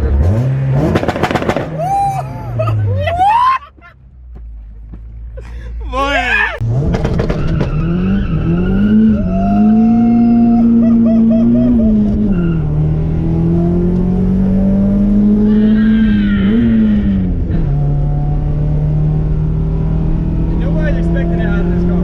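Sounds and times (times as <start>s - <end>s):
car engine revving: 0.0s - 3.0s, 6.6s - 22.0s.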